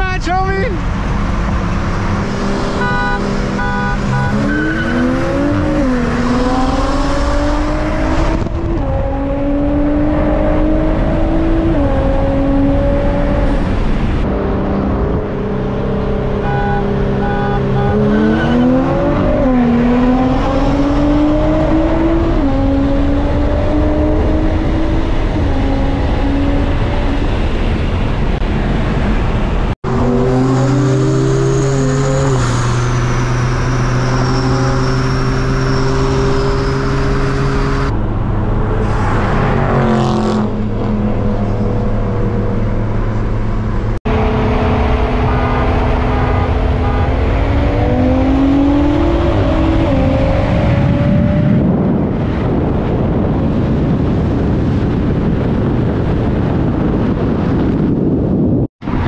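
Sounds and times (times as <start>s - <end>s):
car engine accelerating: 0.8s - 59.0s.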